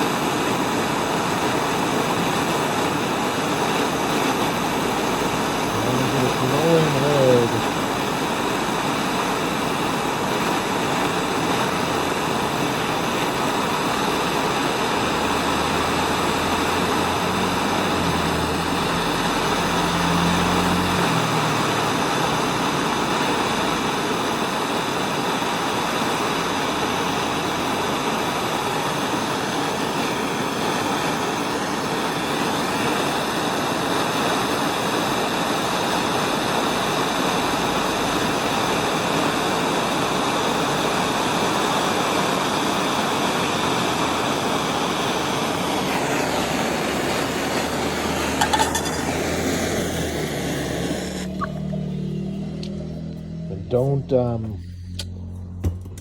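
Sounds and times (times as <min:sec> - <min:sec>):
gas torch hissing: 0:00.0 - 0:54.0.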